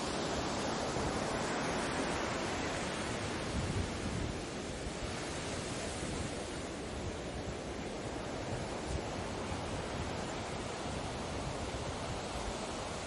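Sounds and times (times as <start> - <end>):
ocean waves washing on shore: 0.0 - 13.0.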